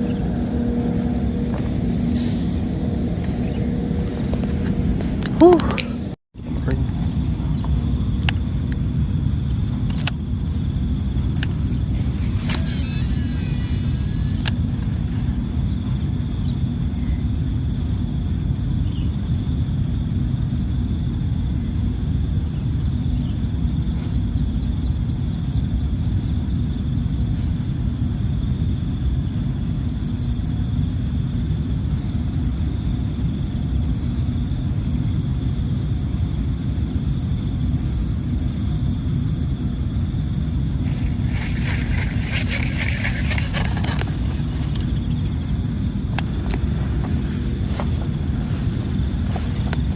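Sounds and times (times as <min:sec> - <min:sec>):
faint high whine: 0:00.0 - 0:49.9
wind rumbling on microphone: 0:00.0 - 0:49.9.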